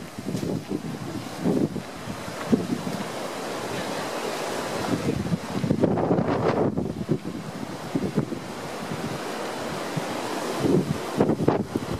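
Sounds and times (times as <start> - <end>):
waves breaking on beach: 0.0 - 11.9
wind buffeting microphone: 0.0 - 11.9.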